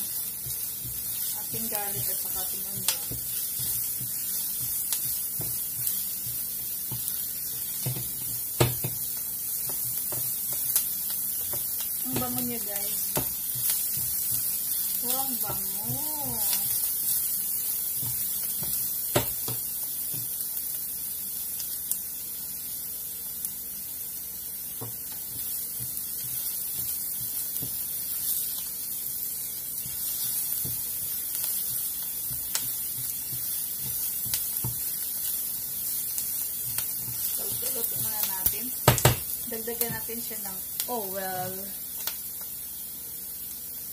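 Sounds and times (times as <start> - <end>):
garlic and onion sizzling: 0.0 - 43.9.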